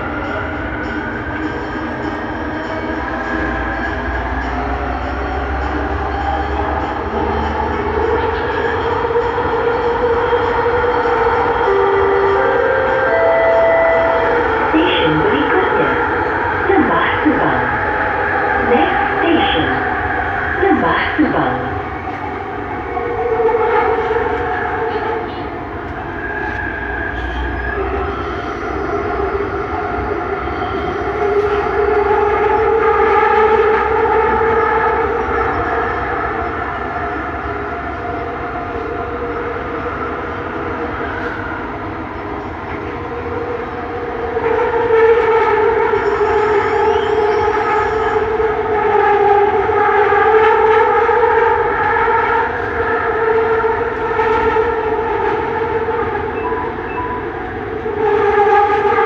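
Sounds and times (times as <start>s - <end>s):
train ride rumble: 0.0s - 59.0s.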